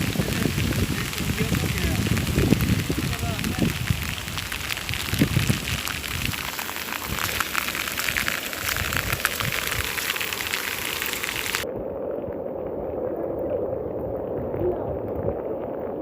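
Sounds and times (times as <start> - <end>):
crackling rush of water: 0.0 - 16.0.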